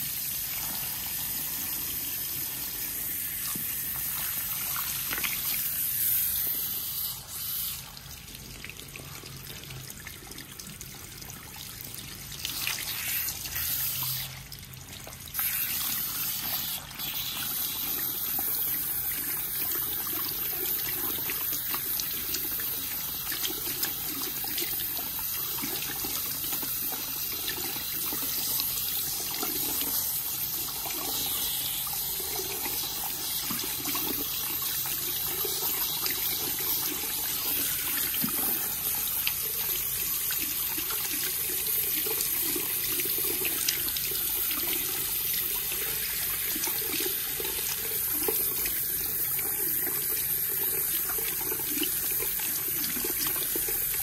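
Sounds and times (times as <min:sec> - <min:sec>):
shower head spraying water: 0:00.0 - 0:08.0, 0:12.6 - 0:14.4, 0:15.3 - 0:54.0.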